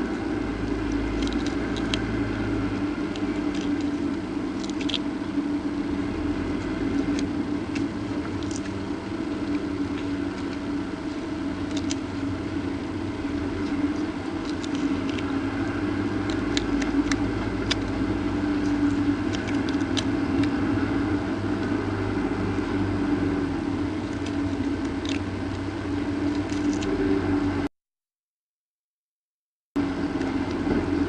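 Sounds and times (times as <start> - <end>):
low mechanical hum: 0.0 - 27.7, 29.8 - 31.0.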